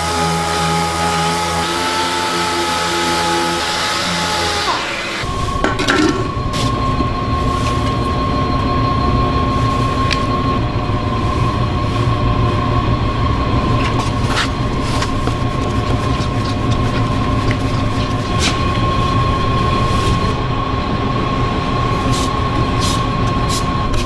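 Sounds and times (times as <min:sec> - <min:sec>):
machinery humming: 0:00.0 - 0:24.0
thin high whine: 0:04.7 - 0:24.0.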